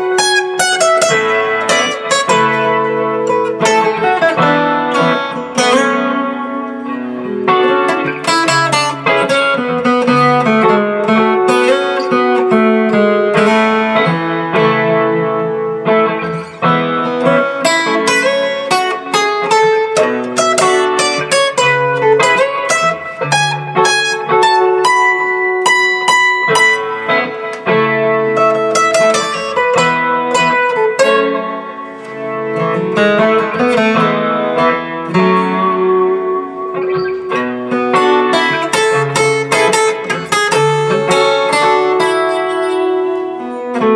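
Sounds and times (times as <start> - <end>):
acoustic guitar melody picked: 0.0 - 43.9
looped guitar chord progression: 0.0 - 43.9.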